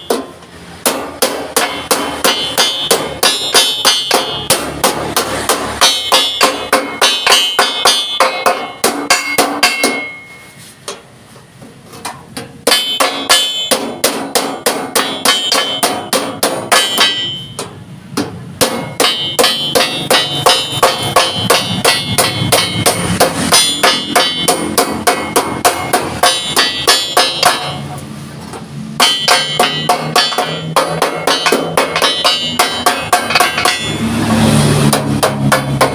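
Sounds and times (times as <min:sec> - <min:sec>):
hammer striking steel plate: 0:00.0 - 0:11.1, 0:12.0 - 0:35.9.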